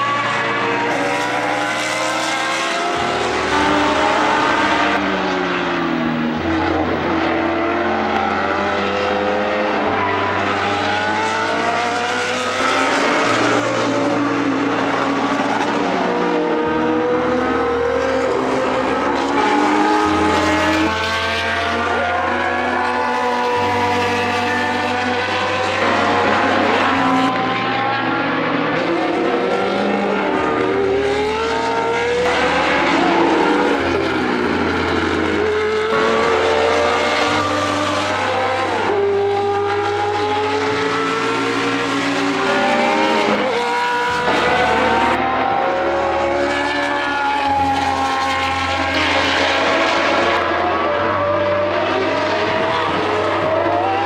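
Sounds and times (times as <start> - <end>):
racing car engines passing by: 0.0 - 54.0.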